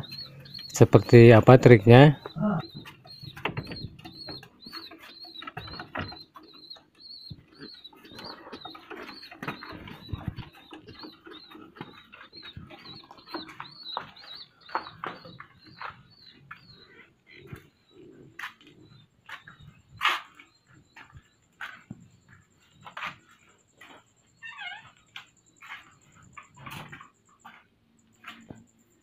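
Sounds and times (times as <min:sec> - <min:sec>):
knocks and clicks against cages: 0:00.0 - 0:29.0.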